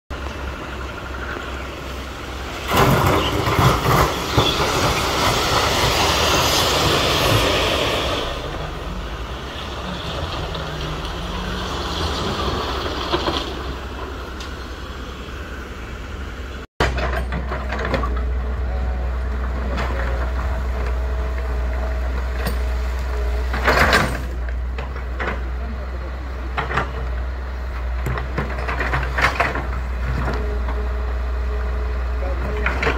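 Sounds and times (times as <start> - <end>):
excavator diesel engine running: 0.1 - 32.9.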